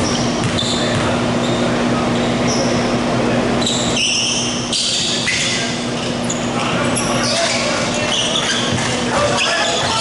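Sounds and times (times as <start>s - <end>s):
sneakers squeaking on hardwood: 0.0s - 2.9s, 3.6s - 10.0s.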